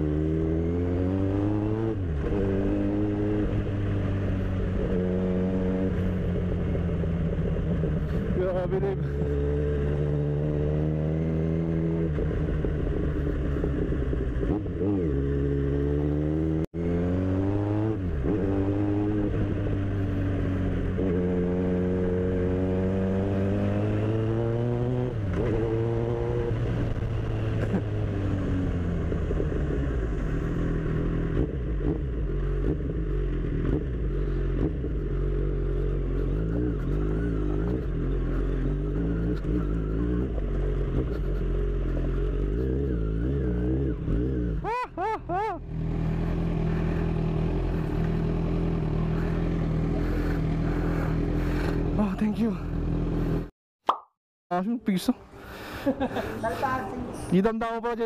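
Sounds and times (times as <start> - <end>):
motorcycle engine revving: 0.0 - 53.5
wind and road noise: 0.0 - 53.5, 54.6 - 58.0.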